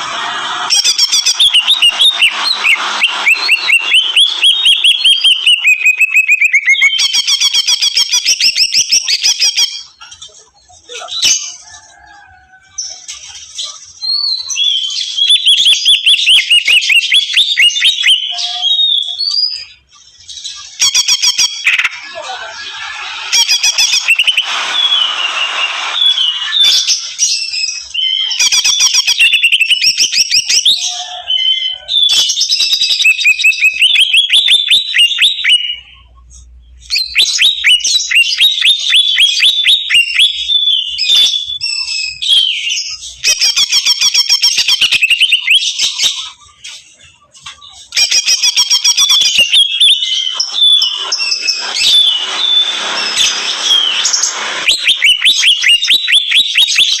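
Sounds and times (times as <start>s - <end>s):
bird singing chattering trills: 0.7s - 11.6s, 12.8s - 36.1s, 36.9s - 57.0s.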